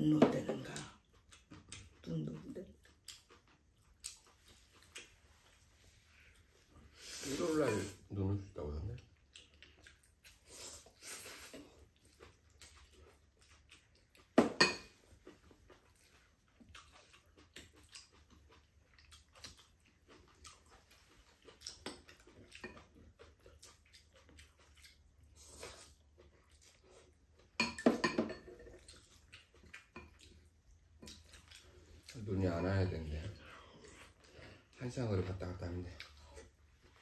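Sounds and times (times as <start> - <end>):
noodles slurped and chewed: 0.7 - 8.1, 9.0 - 27.6, 28.5 - 32.5.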